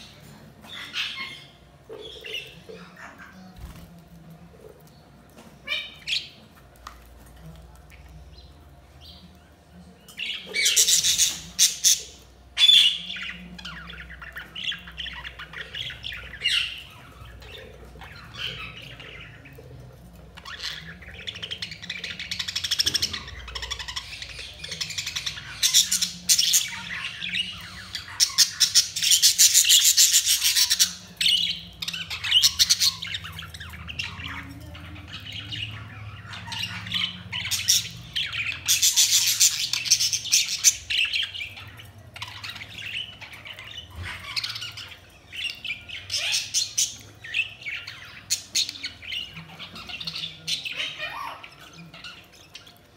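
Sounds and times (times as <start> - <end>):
budgerigars chirping and warbling: 0.0 - 3.9, 4.8 - 52.9.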